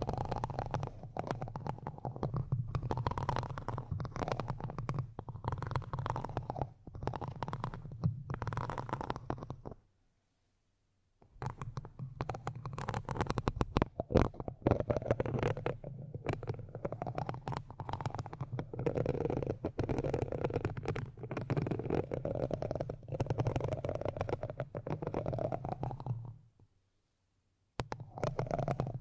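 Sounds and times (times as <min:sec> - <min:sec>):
crackly scratching: 0:00.0 - 0:09.8, 0:11.3 - 0:26.4, 0:27.8 - 0:29.0.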